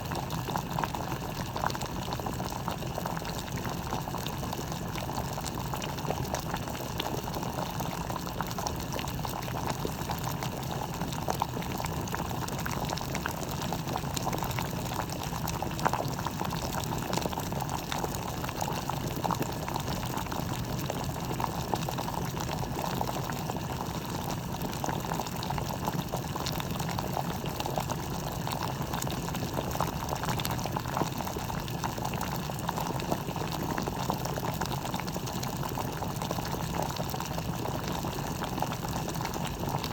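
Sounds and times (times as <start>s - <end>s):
water boiling in electric kettle: 0.0s - 39.9s.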